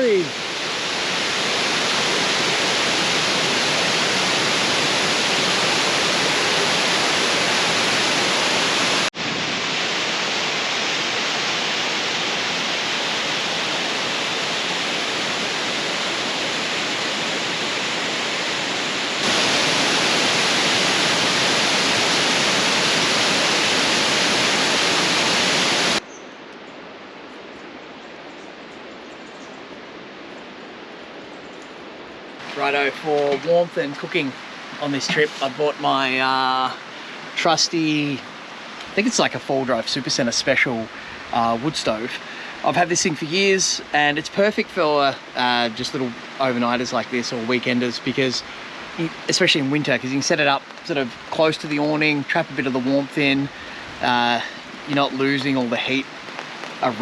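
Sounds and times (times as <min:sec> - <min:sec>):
waterfall rushing: 0:00.0 - 0:26.0, 0:32.4 - 0:57.0.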